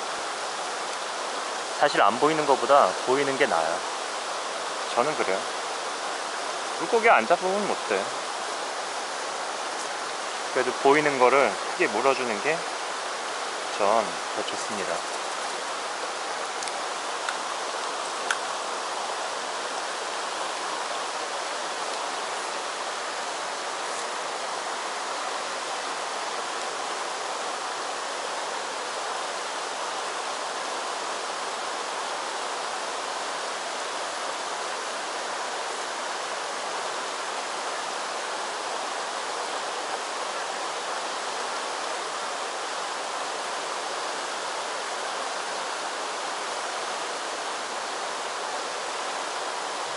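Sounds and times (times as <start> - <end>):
stream babbling over stones: 0.0 - 49.9.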